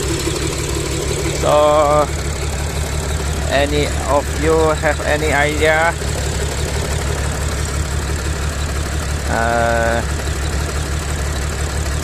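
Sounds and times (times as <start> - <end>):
shaky car engine idling: 0.0 - 12.0.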